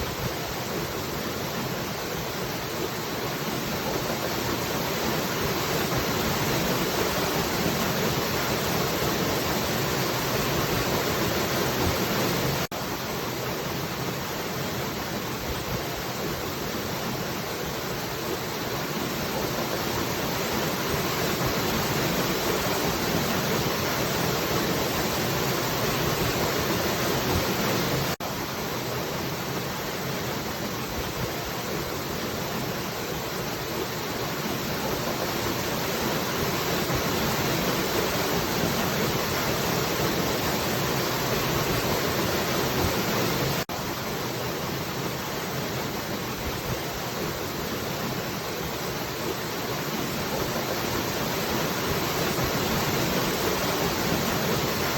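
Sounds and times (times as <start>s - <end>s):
falling water rushing: 0.0s - 54.9s.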